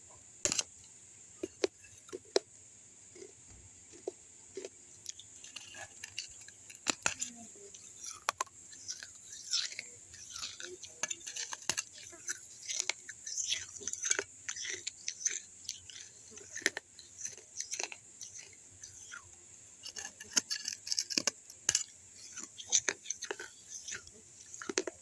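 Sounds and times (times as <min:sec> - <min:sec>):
chewing crunching clay: 0:00.4 - 0:00.8, 0:01.4 - 0:02.5, 0:03.1 - 0:25.0.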